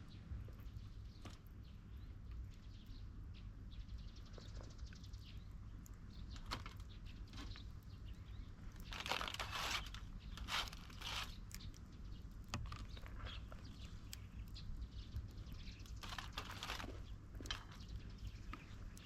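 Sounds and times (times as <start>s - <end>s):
dry crackling and crunching: 0.1s - 3.2s, 3.9s - 19.0s.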